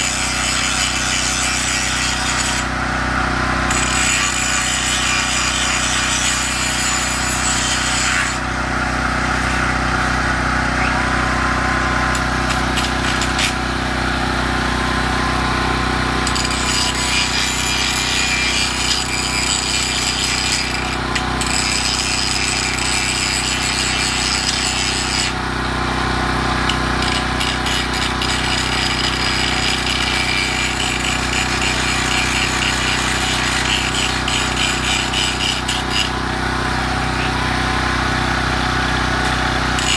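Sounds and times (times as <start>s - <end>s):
power tool grinding steel: 0.0s - 39.9s.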